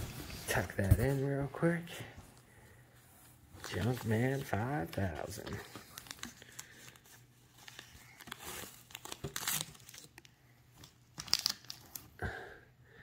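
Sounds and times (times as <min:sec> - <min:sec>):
rustling and crinkling of packing: 0:00.0 - 0:02.4, 0:03.0 - 0:12.0.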